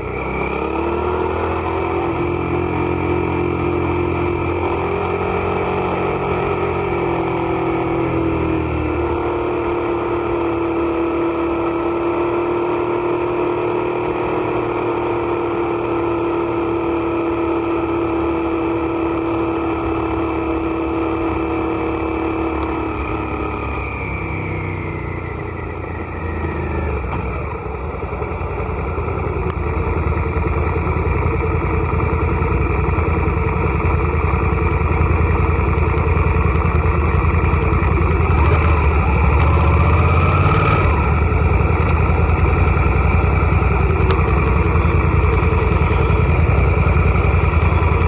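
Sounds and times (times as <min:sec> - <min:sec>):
motorcycle engine running hard: 0:00.0 - 0:48.0.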